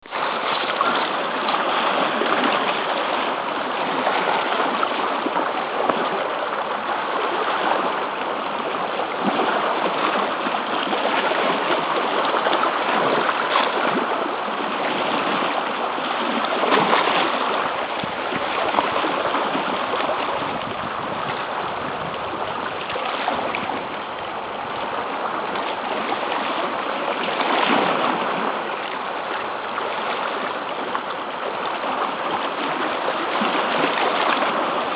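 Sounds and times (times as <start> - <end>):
sea washing against rocky shore: 0.0 - 34.9.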